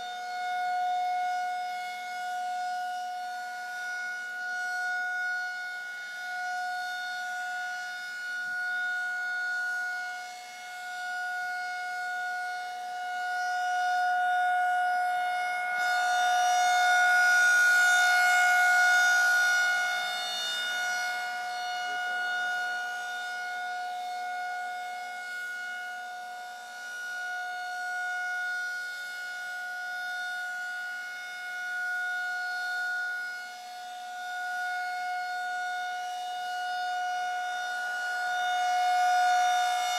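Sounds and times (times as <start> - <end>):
tornado warning siren: 0.0 - 39.9.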